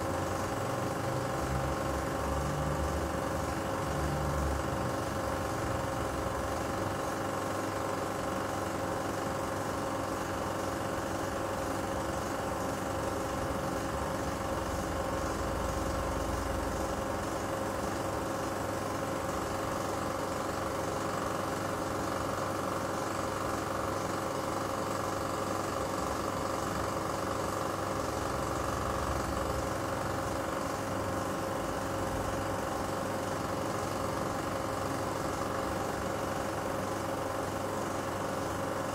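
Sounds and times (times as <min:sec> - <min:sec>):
film projector humming: 0:00.0 - 0:38.9.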